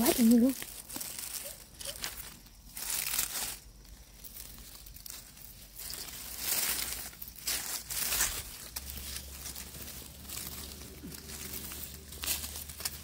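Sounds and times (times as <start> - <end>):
dry leaves rustling and crackling: 0.0 - 13.0.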